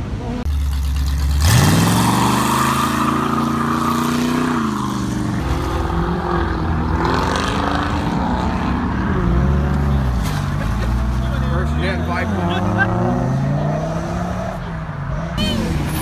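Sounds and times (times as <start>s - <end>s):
car engine revving: 0.4s - 16.0s.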